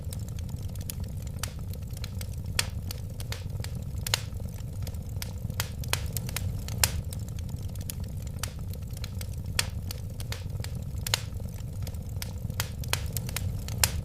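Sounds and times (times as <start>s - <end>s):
fire crackling and popping: 0.0s - 14.0s
wood fire rumbling: 0.0s - 14.0s.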